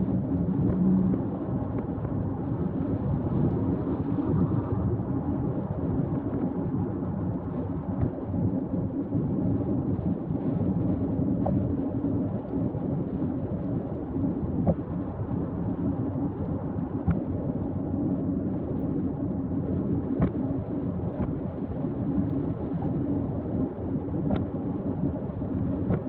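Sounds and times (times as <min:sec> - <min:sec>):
low rumbling noise: 0:00.0 - 0:26.0.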